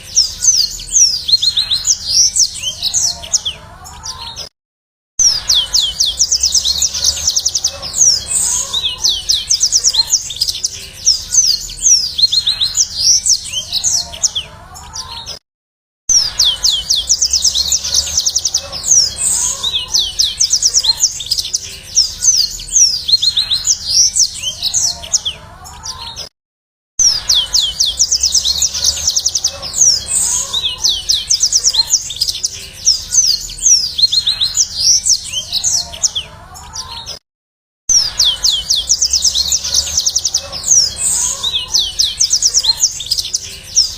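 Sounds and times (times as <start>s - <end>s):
canary singing trills and chirps: 0.0s - 4.5s, 5.2s - 15.4s, 16.1s - 26.3s, 27.0s - 37.2s, 37.9s - 43.9s.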